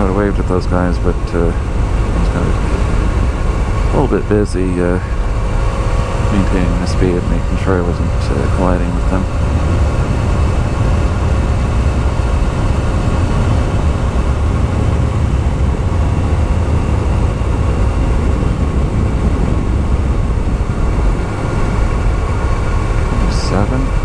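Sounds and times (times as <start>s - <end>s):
motorcycle engine cruising: 0.0s - 24.0s
wind rush on microphone: 0.0s - 24.0s.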